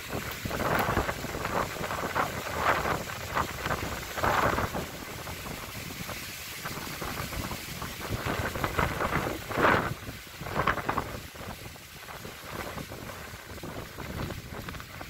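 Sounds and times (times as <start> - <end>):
gusty wind rushing: 0.0 - 15.0
wind buffeting microphone: 0.0 - 15.0.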